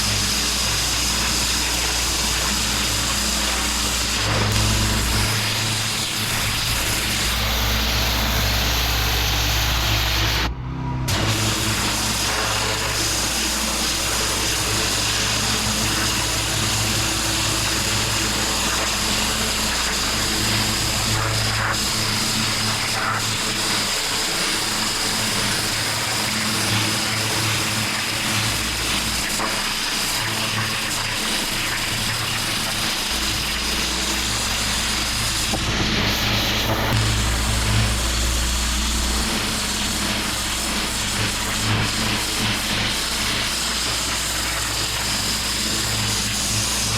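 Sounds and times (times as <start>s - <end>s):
water jet hissing on paving: 0.0s - 10.5s, 11.1s - 46.9s
pressure washer engine drone: 0.0s - 46.9s.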